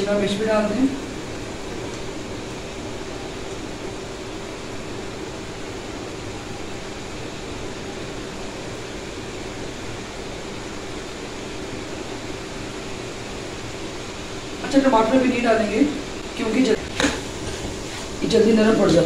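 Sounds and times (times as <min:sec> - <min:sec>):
faint steady hum: 0:00.0 - 0:19.0
gas burner hiss: 0:00.0 - 0:19.0.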